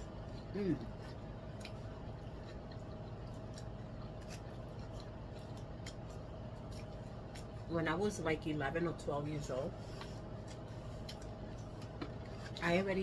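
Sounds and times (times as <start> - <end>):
person chewing: 0.0 - 7.7, 9.9 - 12.6
steady low hum: 0.0 - 13.0.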